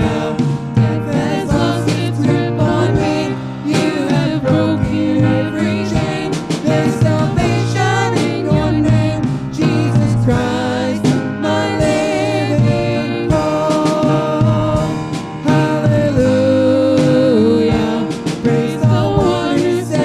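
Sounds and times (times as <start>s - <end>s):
drum kit: 0.0s - 20.0s
grand piano: 0.0s - 20.0s
man singing: 0.0s - 20.0s
woman singing: 0.0s - 20.0s.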